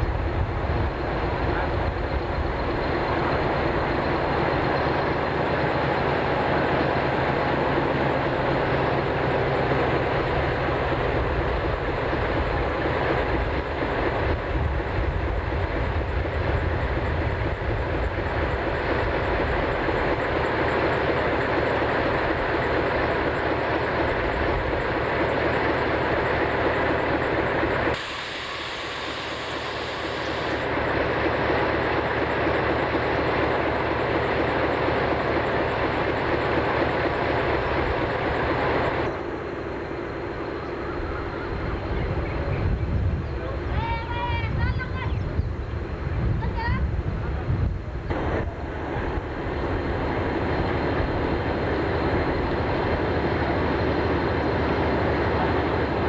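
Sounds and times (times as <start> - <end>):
diesel locomotive engine rumbling: 0.0 - 56.0.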